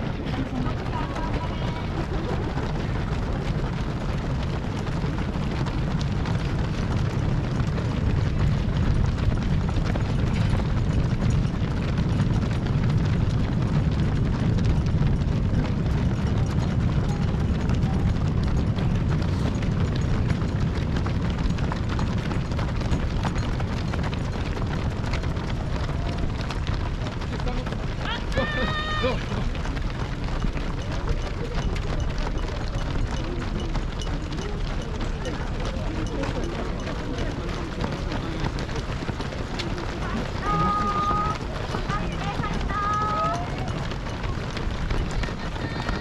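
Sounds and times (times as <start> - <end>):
runners' footsteps: 0.0 - 46.0
wind buffeting microphone: 0.0 - 46.0.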